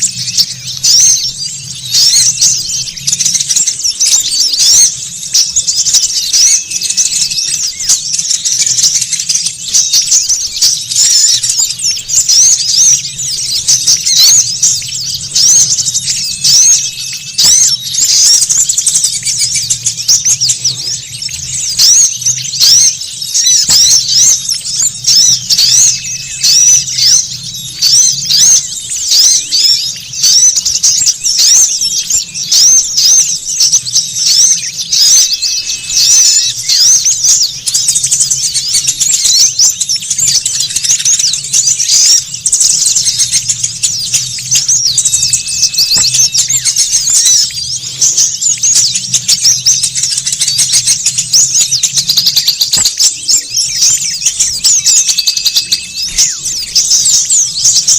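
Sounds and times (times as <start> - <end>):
flock of songbirds chattering: 0.0 - 57.9.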